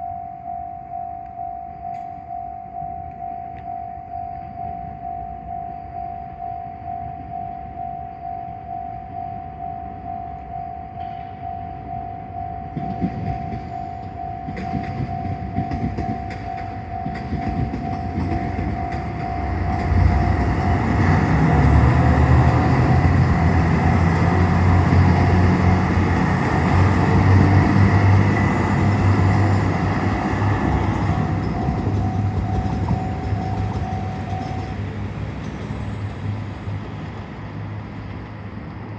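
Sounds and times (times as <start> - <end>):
level crossing warning bell: 0.0 - 34.9
diesel train rumbling: 6.7 - 38.9.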